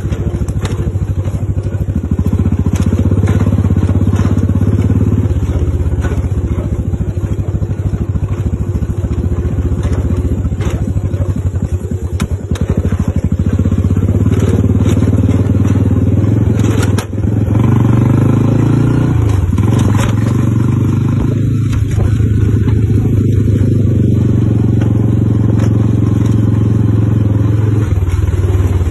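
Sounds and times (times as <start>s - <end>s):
engine running with low hum: 0.0s - 28.9s.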